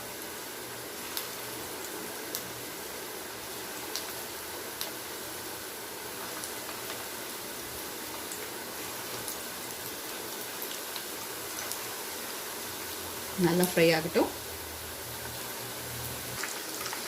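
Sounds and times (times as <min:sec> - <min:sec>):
meatballs sizzling in oil: 0:00.0 - 0:17.0.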